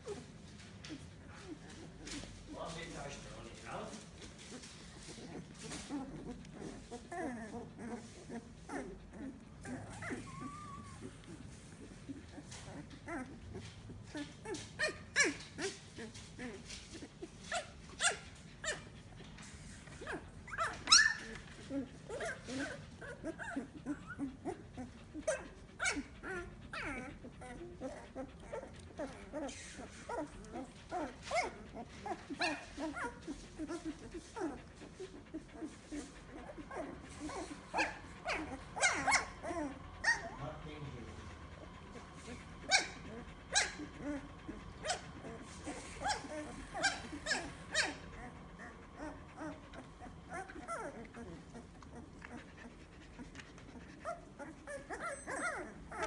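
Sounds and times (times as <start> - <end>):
puppies whimpering and squeaking: 0.0 - 56.0
puppy whining: 0.0 - 56.0.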